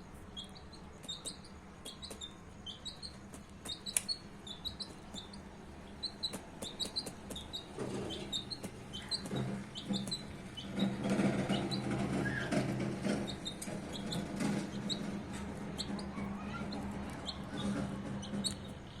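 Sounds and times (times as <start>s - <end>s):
baby chicks peeping: 0.1s - 19.0s.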